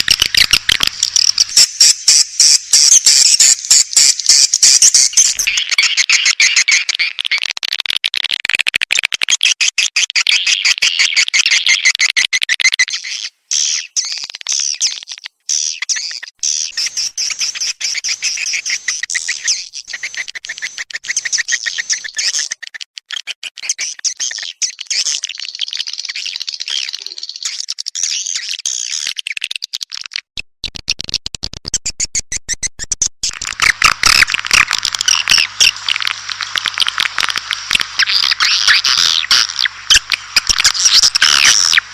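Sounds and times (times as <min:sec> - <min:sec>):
recorded swiftlet chattering calls: 0:00.0 - 0:30.3, 0:33.2 - 0:41.9.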